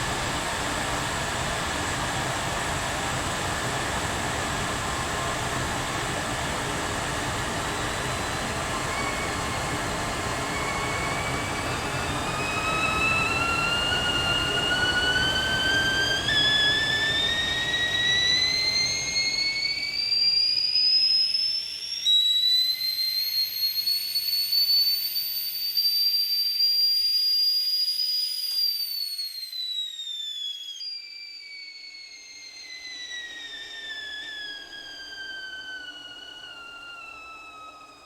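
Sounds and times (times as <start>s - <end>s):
kettle whistling: 0.0s - 38.0s.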